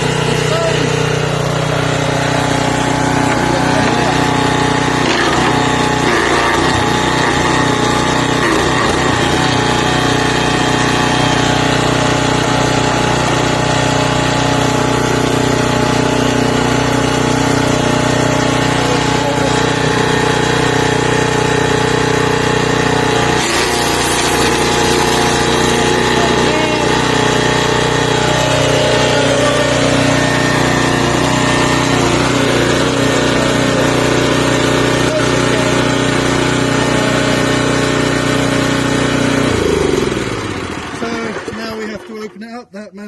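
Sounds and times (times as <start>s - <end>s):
wood chipper engine running: 0.0s - 43.0s.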